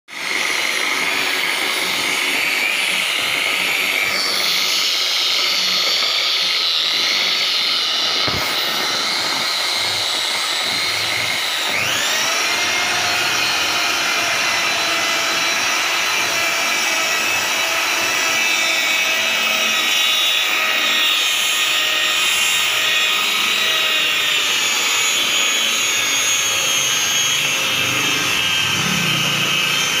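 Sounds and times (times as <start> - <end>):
car polisher motor whining: 0.1 - 30.0.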